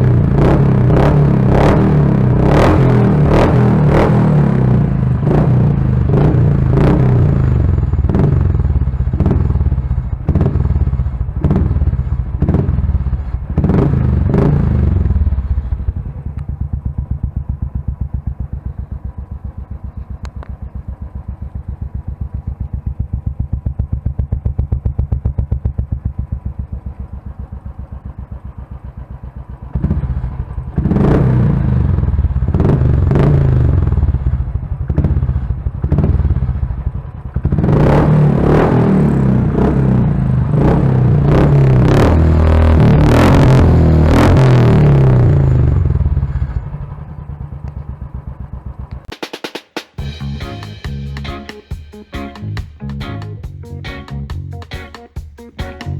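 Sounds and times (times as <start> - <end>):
motorcycle engine revving and idling: 0.0 - 55.9.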